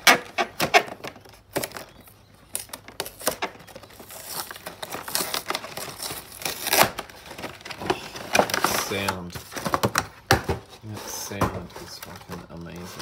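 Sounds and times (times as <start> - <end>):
plastic wrapping crinkling: 0.0 - 13.0
plastic wrapping tearing: 0.0 - 13.0.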